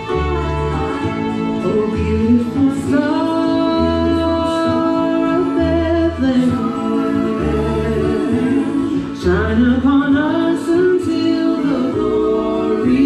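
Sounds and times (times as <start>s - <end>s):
instrumental accompaniment: 0.0s - 13.0s
woman singing a slow song: 1.6s - 13.0s.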